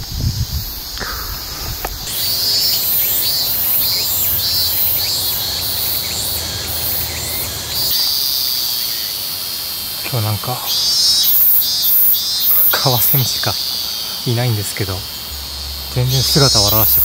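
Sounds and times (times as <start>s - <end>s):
insects singing in pulses: 0.0s - 17.0s.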